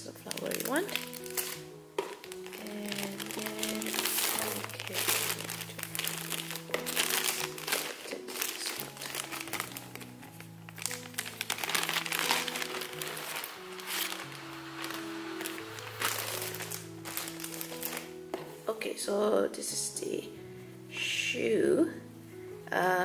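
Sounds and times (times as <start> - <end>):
plastic bag crinkling: 0.0 - 18.6
soft background music: 0.0 - 23.0.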